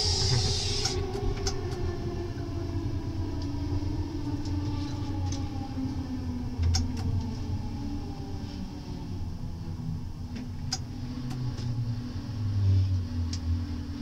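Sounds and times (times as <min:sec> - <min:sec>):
train rumble inside coach: 0:00.0 - 0:14.0.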